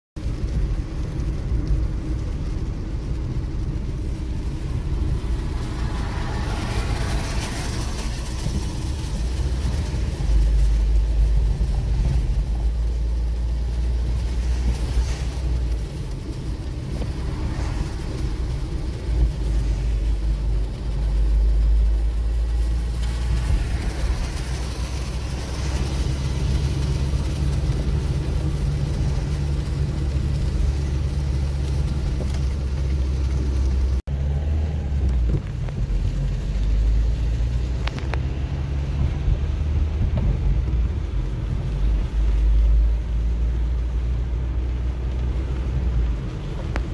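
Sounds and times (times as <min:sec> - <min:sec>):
car engine and tyres rumbling: 0:00.2 - 0:46.9
tyres hissing on wet road: 0:00.2 - 0:46.9.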